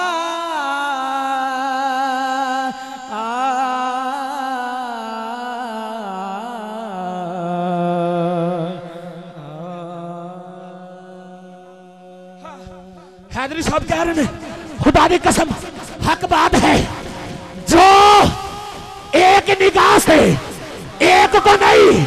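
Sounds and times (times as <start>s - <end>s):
man singing over pa system: 0.0s - 22.0s.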